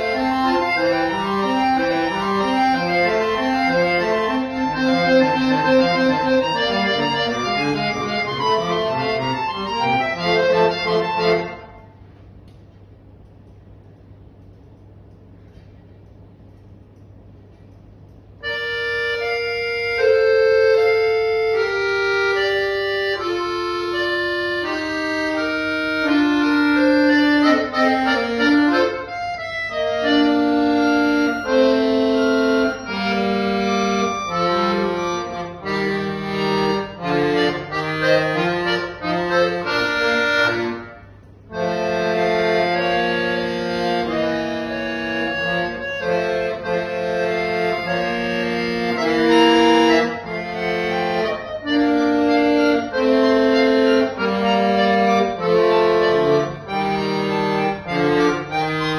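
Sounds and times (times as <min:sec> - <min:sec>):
button accordion playing: 0:00.0 - 0:12.0, 0:18.4 - 0:58.9.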